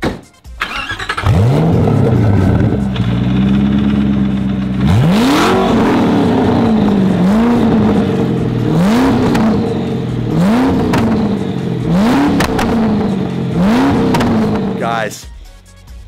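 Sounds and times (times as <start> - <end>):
car engine revving: 0.6 - 15.0
car engine idling: 0.6 - 15.2.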